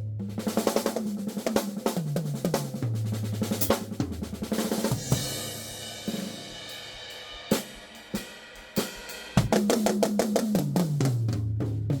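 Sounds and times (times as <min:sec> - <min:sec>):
drum kit playing: 0:00.0 - 0:12.0
fast drum fill on toms: 0:00.0 - 0:12.0.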